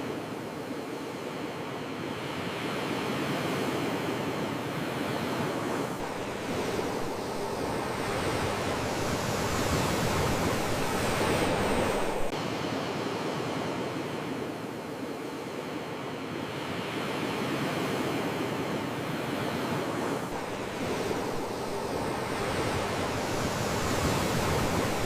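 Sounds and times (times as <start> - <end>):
sea waves washing onto shore: 2.3 - 15.4, 16.7 - 25.0.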